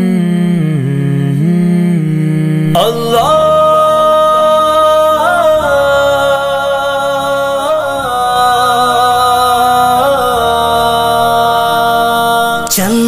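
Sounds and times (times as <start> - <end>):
person singing long held notes: 0.0 - 13.0.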